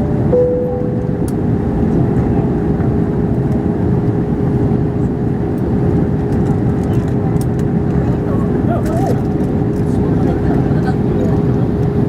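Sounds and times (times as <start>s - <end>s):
airflow and engine noise: 0.0s - 12.0s
constant low hum: 0.0s - 12.0s.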